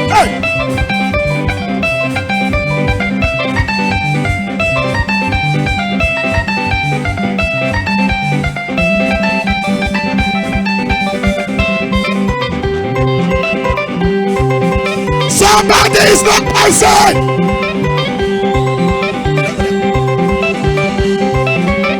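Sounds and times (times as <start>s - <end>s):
live band dance music: 0.0s - 21.9s.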